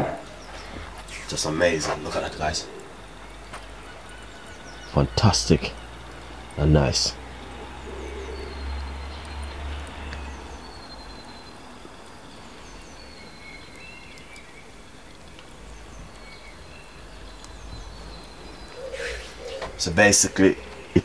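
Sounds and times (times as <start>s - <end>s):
faint bird calls: 0.0s - 21.0s.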